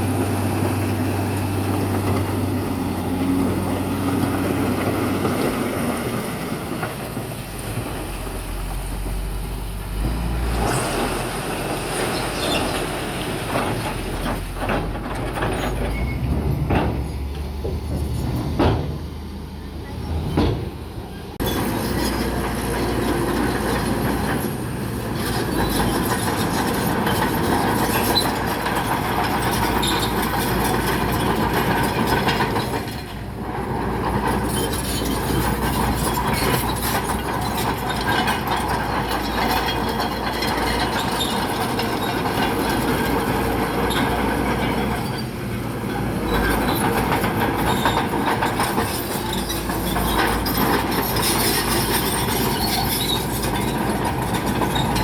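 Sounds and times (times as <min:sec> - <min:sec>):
bulldozer diesel engine: 0:00.0 - 0:55.0
steel tracks clattering and squealing: 0:00.0 - 0:55.0.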